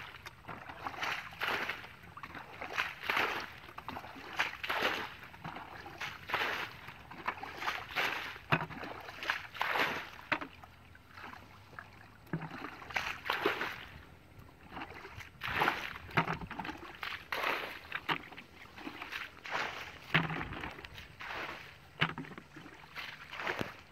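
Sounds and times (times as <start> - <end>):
muddy water sloshing and splashing: 0.0 - 23.9.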